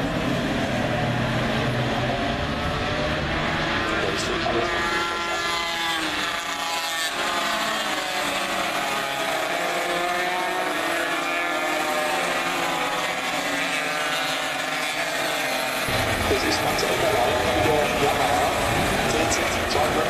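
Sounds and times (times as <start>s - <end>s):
racing motorcycles accelerating: 0.0s - 20.0s.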